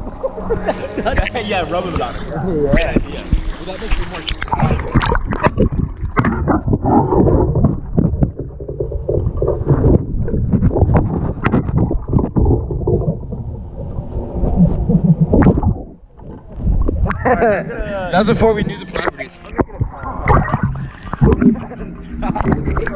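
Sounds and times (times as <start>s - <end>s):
water splashes: 0.0s - 17.3s, 18.6s - 22.9s
water sloshing and gurgling: 0.0s - 17.6s, 18.4s - 22.9s.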